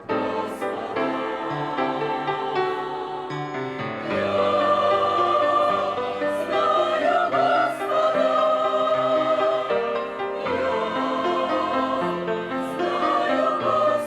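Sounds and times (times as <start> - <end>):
church choir singing a hymn: 0.0 - 14.0.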